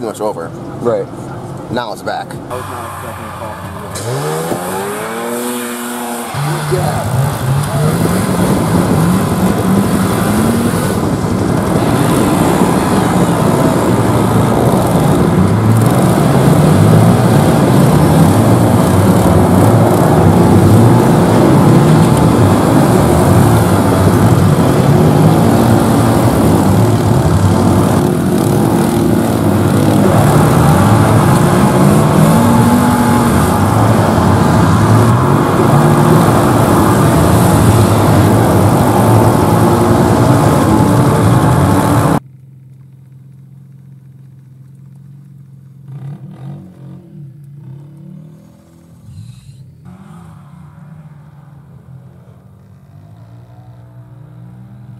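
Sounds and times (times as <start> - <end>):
engines revving: 0.0 - 42.2, 45.8 - 54.9.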